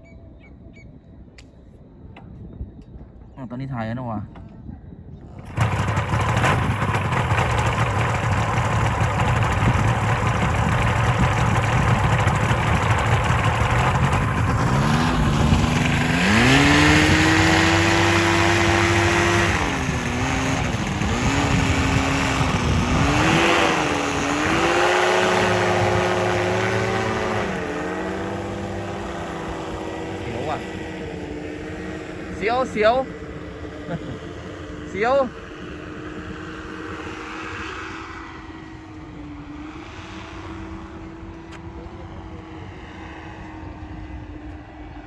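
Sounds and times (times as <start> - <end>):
paramotor propeller engine: 5.2 - 45.0.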